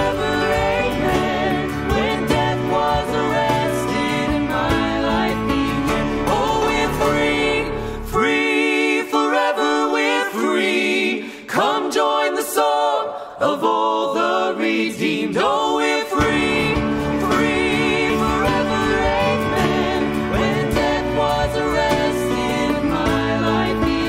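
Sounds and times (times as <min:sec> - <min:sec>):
voices singing in harmony: 0:00.0 - 0:24.0.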